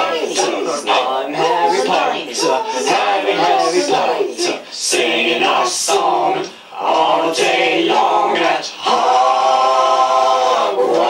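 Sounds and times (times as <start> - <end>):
choir singing a cappella chant: 0.0 - 11.0.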